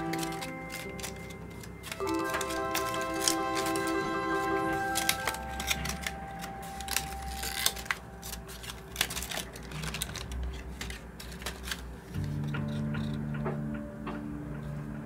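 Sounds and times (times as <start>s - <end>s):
paper clicks taps and rustles: 0.0s - 13.6s
low steady hum: 0.0s - 15.0s.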